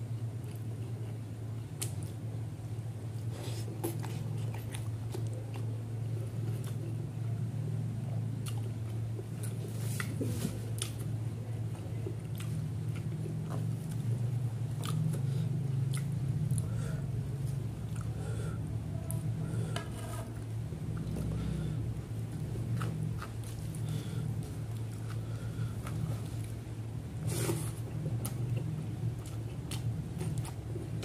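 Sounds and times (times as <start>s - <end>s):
steady low hum: 0.0s - 31.0s
person chewing and smacking: 0.1s - 2.4s, 3.0s - 7.3s, 8.0s - 18.2s, 19.1s - 31.0s.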